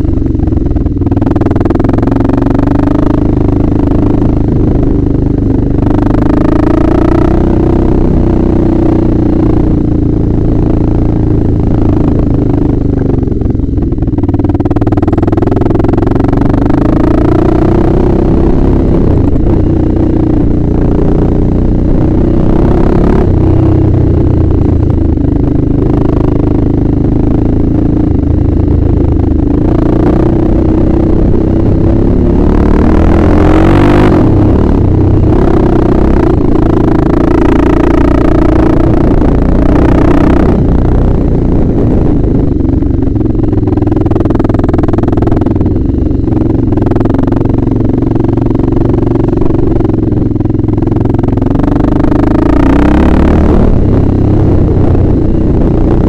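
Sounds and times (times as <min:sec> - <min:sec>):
quad engine revving: 0:00.0 - 0:13.4, 0:14.4 - 0:56.0.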